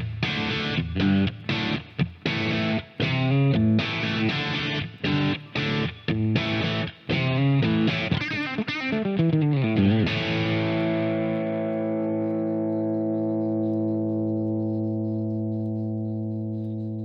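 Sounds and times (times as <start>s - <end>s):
guitar with effects: 0.0s - 17.0s.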